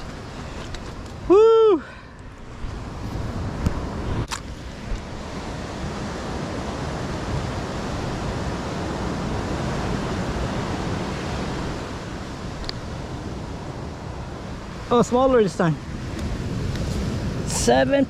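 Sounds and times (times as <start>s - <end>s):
ocean surf washing ashore: 0.0s - 18.0s
wind buffeting microphone: 0.0s - 18.0s.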